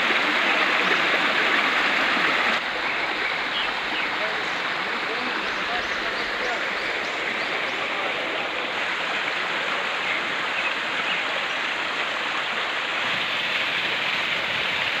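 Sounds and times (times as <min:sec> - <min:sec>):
stream splashing over rocks: 0:00.0 - 0:15.0.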